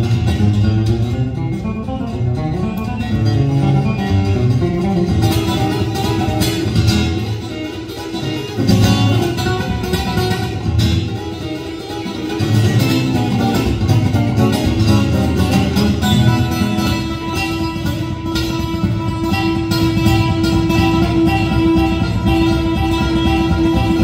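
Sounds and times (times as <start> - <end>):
fingerstyle acoustic guitar: 0.0 - 24.0.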